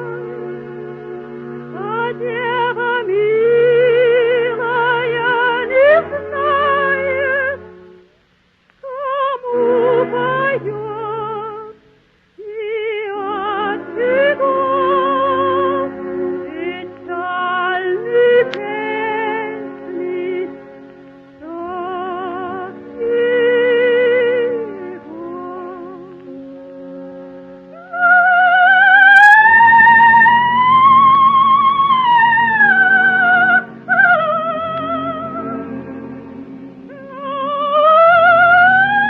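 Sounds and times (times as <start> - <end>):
soprano singing with vibrato: 0.0 - 0.6, 1.7 - 7.7, 8.8 - 11.8, 12.4 - 20.6, 21.4 - 26.3, 27.7 - 39.0
soft orchestral accompaniment: 0.0 - 39.0.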